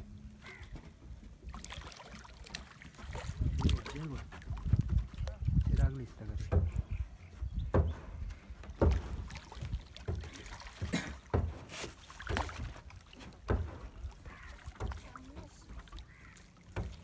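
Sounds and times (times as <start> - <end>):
water slapping against boat hull: 0.4 - 17.0.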